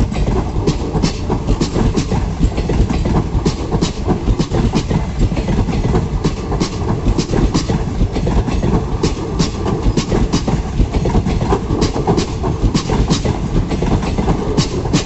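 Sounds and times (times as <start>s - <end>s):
train rolling past: 0.0s - 15.0s
wheels clacking over rail joints: 0.0s - 15.0s.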